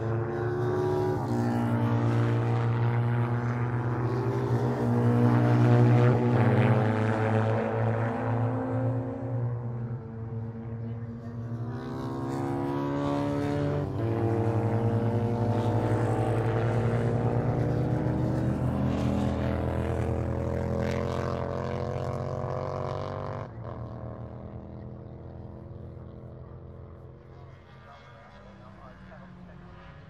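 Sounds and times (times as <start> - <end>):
racing motorcycle passing: 0.0 - 30.0.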